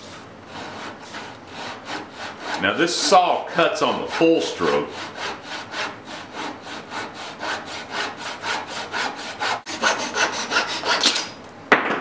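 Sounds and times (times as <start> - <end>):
hand saw sawing wood: 0.0 - 11.4.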